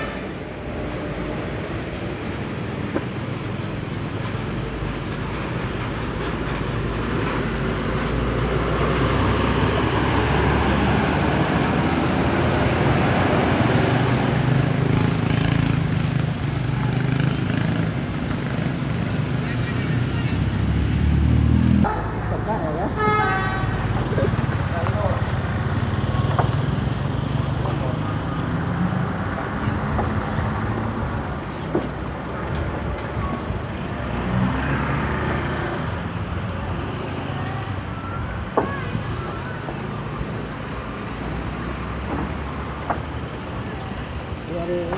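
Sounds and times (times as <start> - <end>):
bus engine humming: 0.0 - 44.9
road and traffic noise: 0.0 - 44.9.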